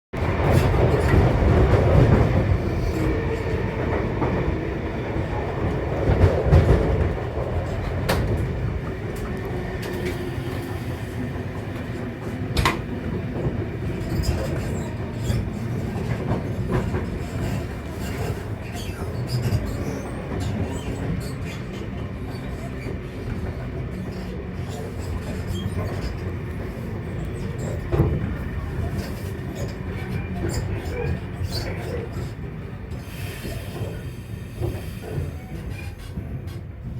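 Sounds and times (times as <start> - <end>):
train rumble and hum: 0.1 - 36.9.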